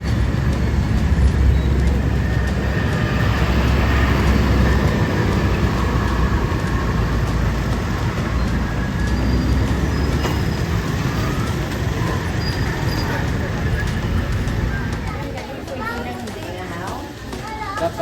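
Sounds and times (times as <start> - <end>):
car road and engine rumble: 0.0 - 15.2.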